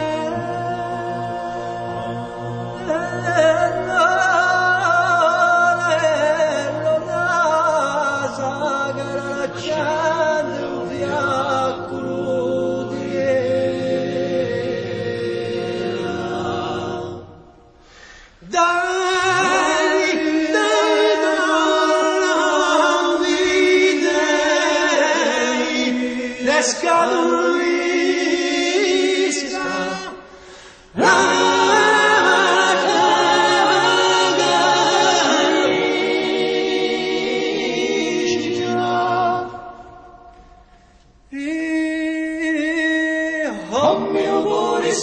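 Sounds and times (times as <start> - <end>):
choir singing unaccompanied: 0.0 - 17.6, 18.8 - 30.3, 30.9 - 40.4, 43.5 - 45.0.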